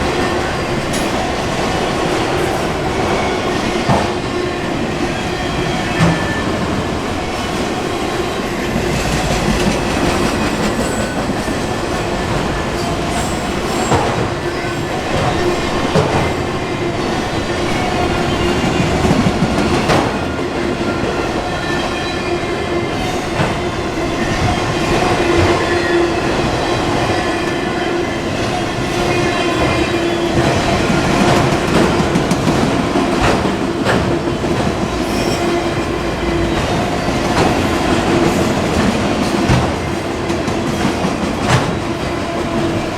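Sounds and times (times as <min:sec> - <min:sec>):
wheels clacking over rail joints: 0:00.0 - 0:21.5, 0:29.6 - 0:42.9
train wheels rumbling on rail: 0:00.0 - 0:42.9.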